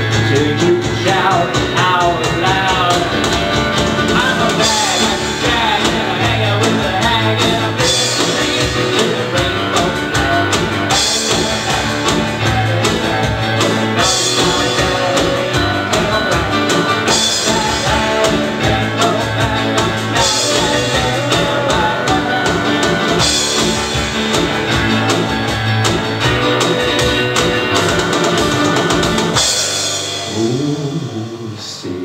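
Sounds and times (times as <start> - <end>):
guitar: 0.0 - 32.0
piano: 0.0 - 32.0
steady drum beat: 0.0 - 32.0.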